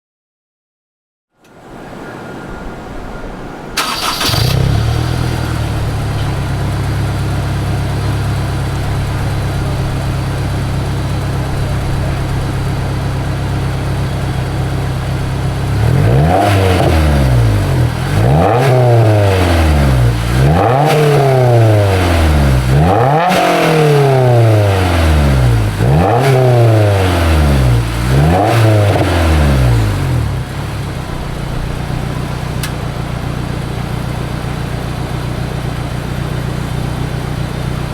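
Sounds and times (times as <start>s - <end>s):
car engine starting and idling: 3.8s - 37.9s
engine revving: 3.8s - 37.9s.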